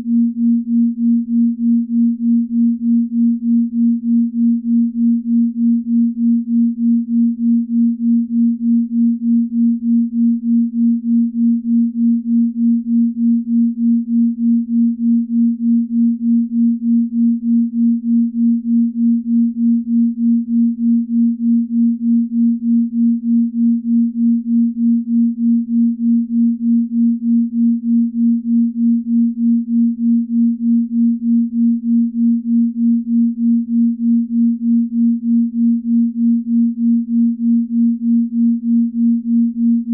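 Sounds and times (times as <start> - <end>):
pulsing low pure tone: 0.0 - 39.9.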